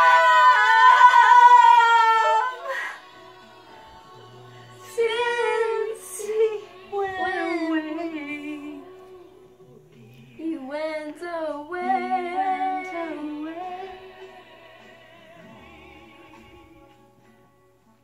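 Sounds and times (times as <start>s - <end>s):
woman singing: 0.0s - 9.4s, 10.0s - 16.9s
instrumental backing music: 0.0s - 18.0s.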